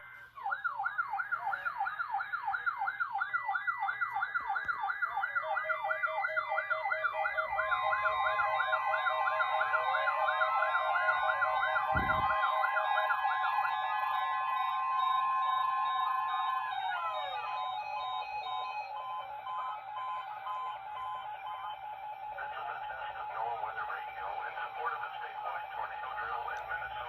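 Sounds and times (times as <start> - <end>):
electronic siren yelping: 0.0 - 27.0
steady held siren tone: 0.0 - 27.0.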